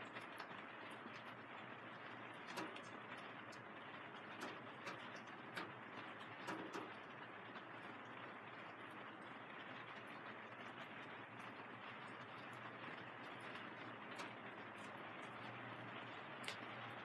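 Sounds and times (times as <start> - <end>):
rain on plastic sheeting: 0.0 - 17.0.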